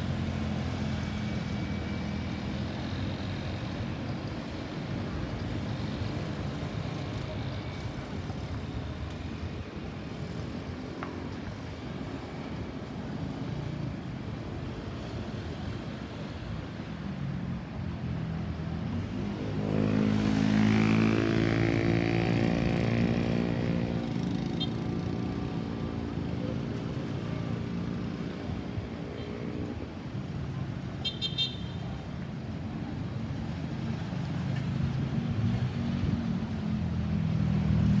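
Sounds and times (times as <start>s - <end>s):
road traffic: 0.0s - 38.0s.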